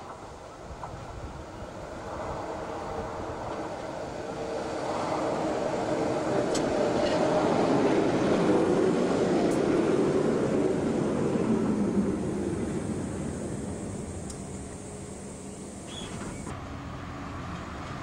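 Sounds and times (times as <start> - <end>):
tram passing: 0.0 - 18.0.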